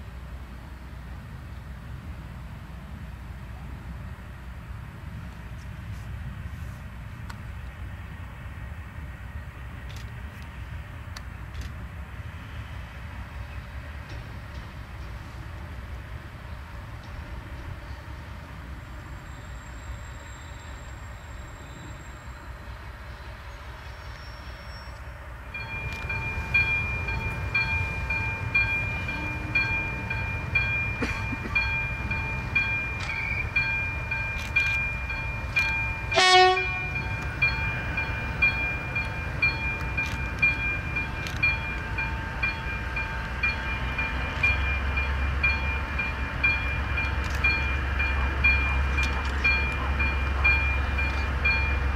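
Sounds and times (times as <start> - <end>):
locomotive engine whine: 7.6 - 51.9.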